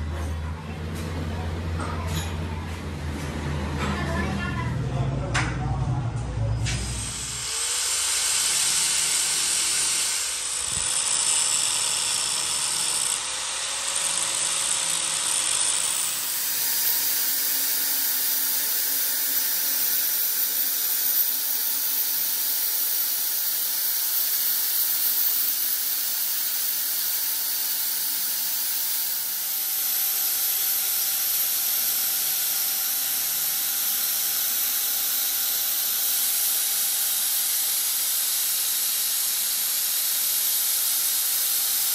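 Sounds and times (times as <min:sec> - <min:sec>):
angle grinder grinding steel: 0:06.7 - 0:41.9.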